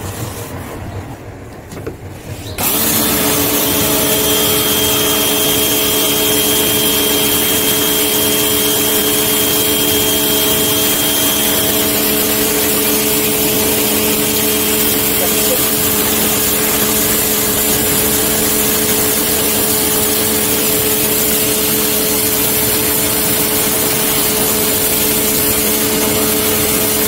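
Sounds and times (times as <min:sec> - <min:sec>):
pressure washer motor whining: 0:02.3 - 0:27.0
water jet hissing on wood: 0:02.6 - 0:27.0.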